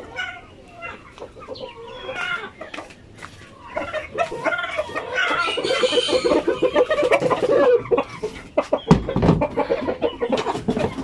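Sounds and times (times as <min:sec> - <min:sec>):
chickens clucking excitedly: 0:00.0 - 0:11.0.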